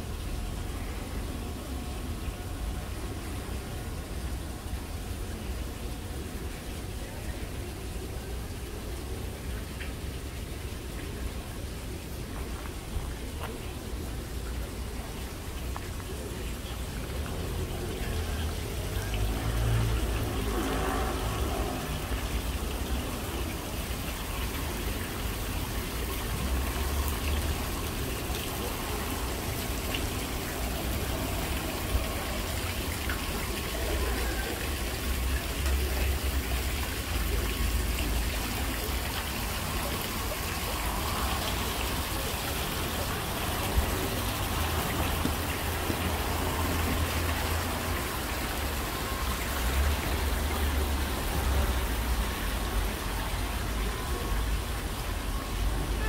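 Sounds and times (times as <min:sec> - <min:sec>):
faint voices: 0:00.4 - 0:56.0.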